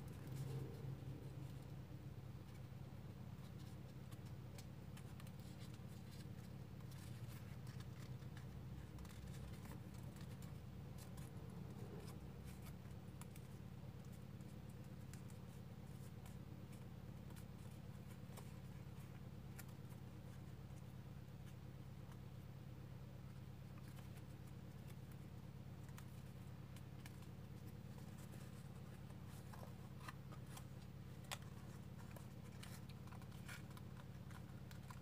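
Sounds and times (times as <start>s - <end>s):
paper crinkling: 0.0s - 22.4s, 23.1s - 35.0s
steady low hum: 0.0s - 35.0s.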